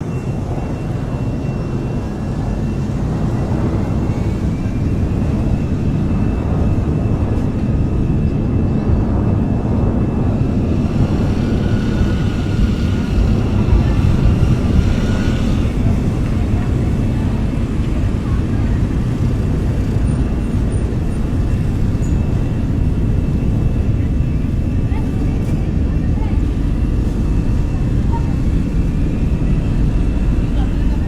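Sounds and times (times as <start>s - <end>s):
aeroplane engines droning: 0.0s - 31.0s
faint high whine: 0.0s - 31.0s.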